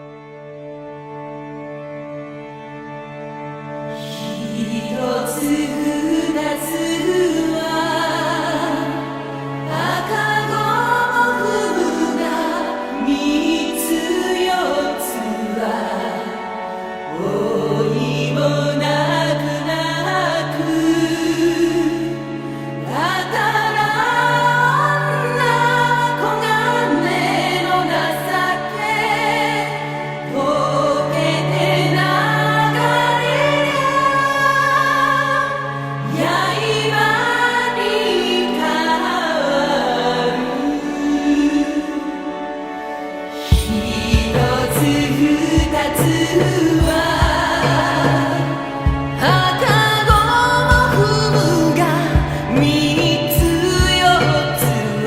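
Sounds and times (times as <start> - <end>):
choir-like voices: 3.8 - 55.0
choral chant singing: 4.0 - 55.0.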